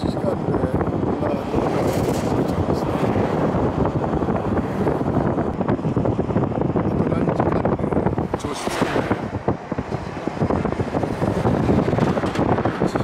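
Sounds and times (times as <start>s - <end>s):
car road and engine noise: 0.0s - 13.0s
wind noise: 0.0s - 13.0s.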